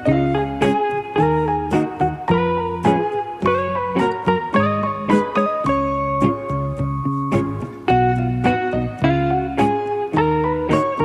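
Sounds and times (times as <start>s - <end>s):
plucked guitar or keyboard melody: 0.0s - 11.0s.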